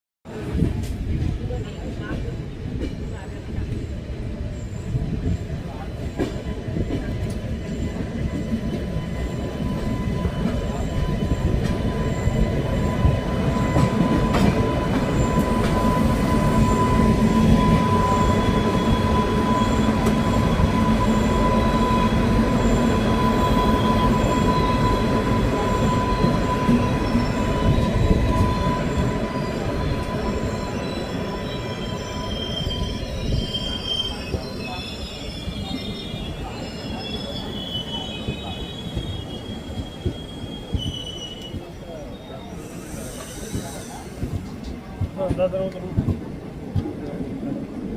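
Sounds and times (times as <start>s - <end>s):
train rumbling on rails: 0.2s - 47.9s.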